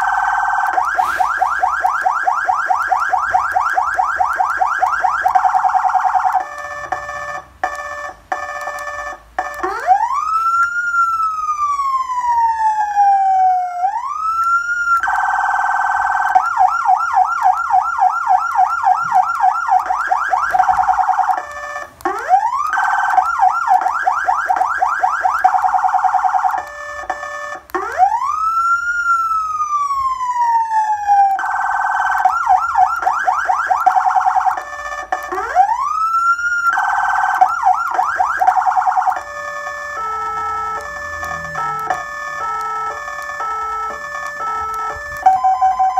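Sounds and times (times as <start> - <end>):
electronic police siren cycling tones: 0.0 - 45.9.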